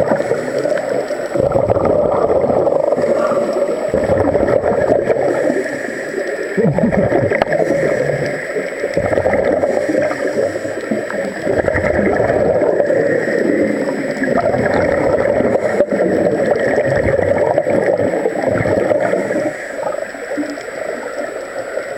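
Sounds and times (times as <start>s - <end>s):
underwater air bubbling: 0.0s - 21.9s.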